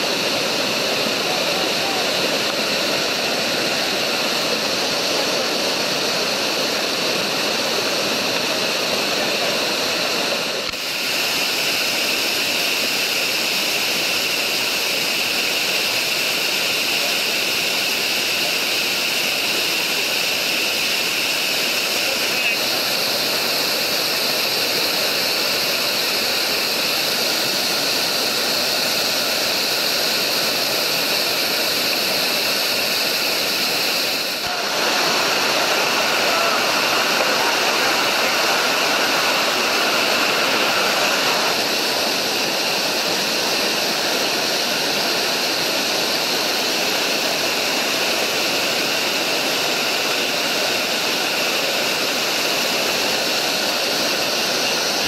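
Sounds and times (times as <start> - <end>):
whitewater rushing over falls: 0.0 - 55.0.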